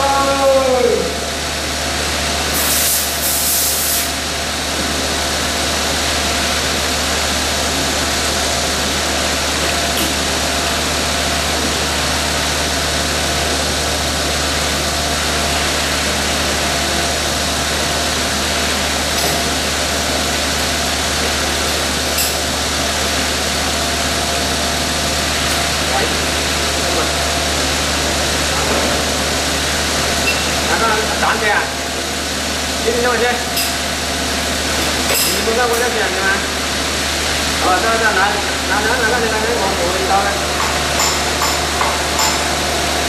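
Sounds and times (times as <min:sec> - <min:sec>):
milling machine humming: 0:00.0 - 0:43.0.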